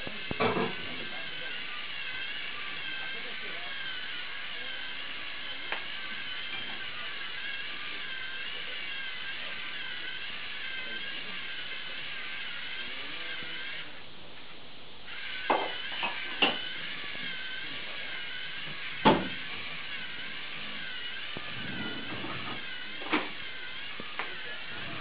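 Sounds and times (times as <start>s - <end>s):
servo motors whining: 0.0s - 14.0s, 15.1s - 25.0s.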